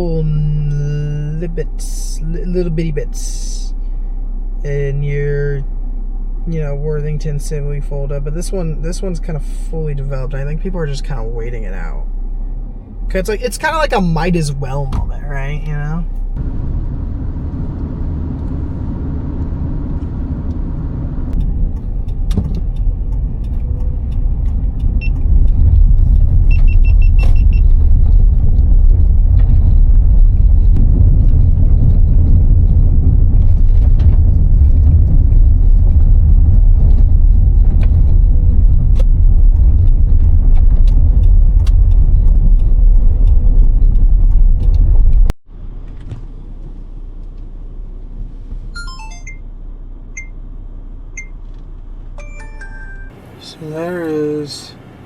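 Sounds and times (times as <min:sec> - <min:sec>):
car road and wind rumble: 0:00.0 - 0:55.0.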